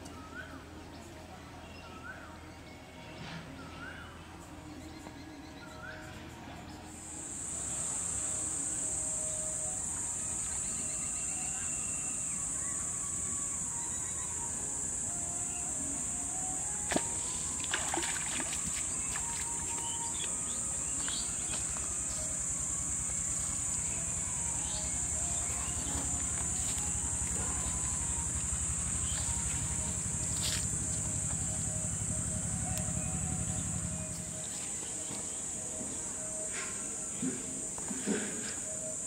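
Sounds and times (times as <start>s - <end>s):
insects chorus: 3.8s - 39.0s.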